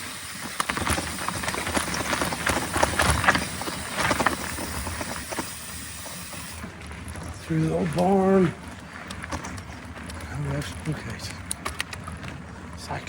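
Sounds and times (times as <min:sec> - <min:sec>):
mountain bike rattling over bumps: 0:00.0 - 0:13.0.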